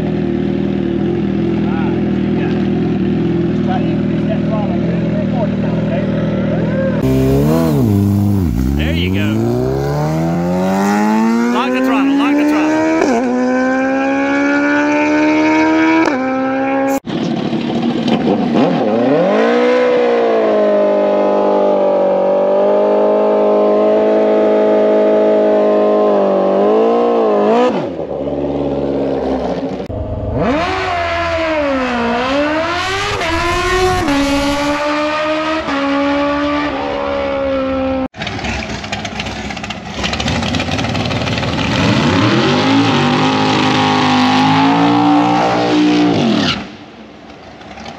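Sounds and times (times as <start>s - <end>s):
motorcycle engines revving hard: 0.0s - 46.8s.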